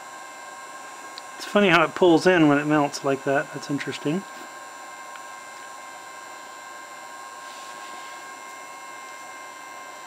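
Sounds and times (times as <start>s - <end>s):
heat gun fan blowing air: 0.0s - 10.0s.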